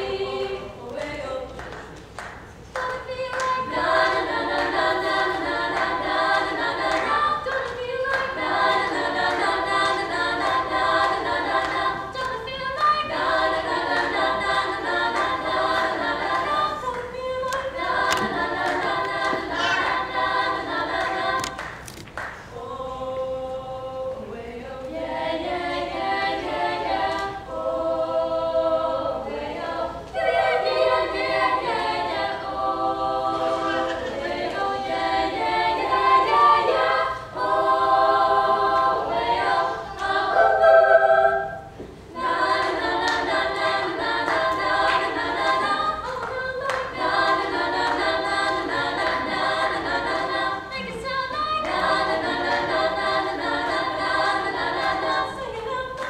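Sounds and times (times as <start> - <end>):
female ensemble singing a cappella: 0.0 - 56.0.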